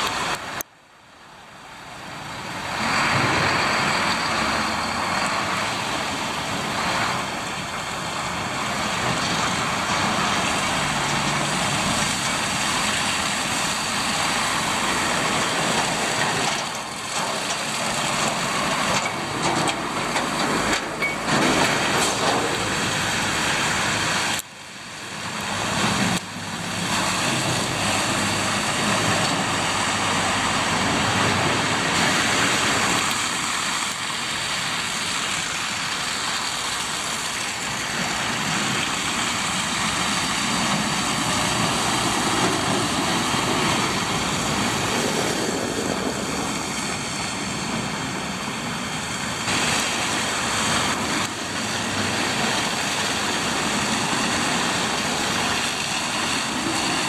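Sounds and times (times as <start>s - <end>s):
trucks and cars driving past: 0.0s - 57.0s
tyres hissing through slush: 1.4s - 57.0s.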